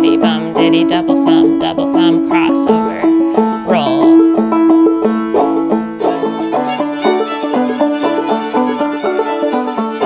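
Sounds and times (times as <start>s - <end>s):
banjo playing: 0.0s - 10.0s.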